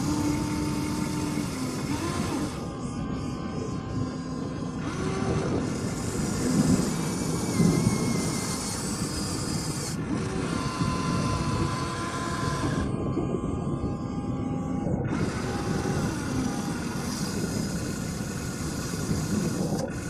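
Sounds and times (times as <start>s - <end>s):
toy excavator motors whirring: 0.0s - 20.0s.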